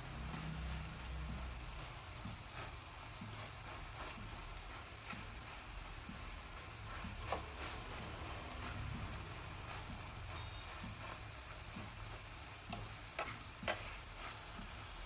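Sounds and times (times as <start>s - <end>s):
oil spitting in frying pan: 0.0s - 15.0s.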